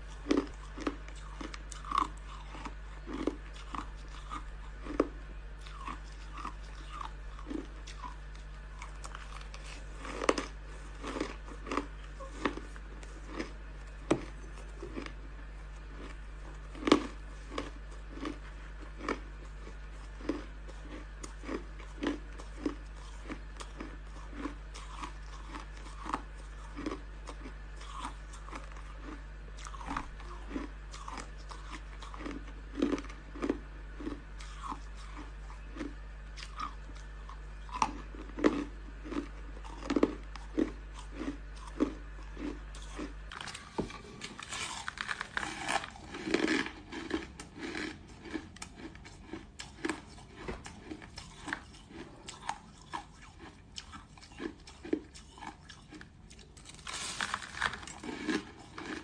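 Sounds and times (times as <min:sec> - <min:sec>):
crushed ice being chewed: 0:00.0 - 0:59.0
low hum: 0:00.0 - 0:59.0.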